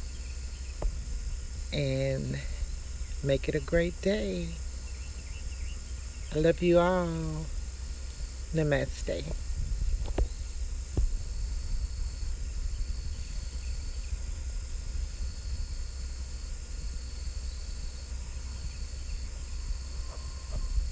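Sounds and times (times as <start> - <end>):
constant low rumble: 0.0 - 20.9
crickets chirping: 0.0 - 20.9.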